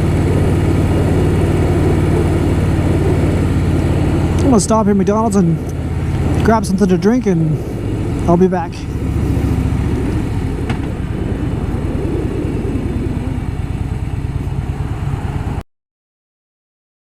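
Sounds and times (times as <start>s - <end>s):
motorcycle engine idling: 0.0s - 15.6s.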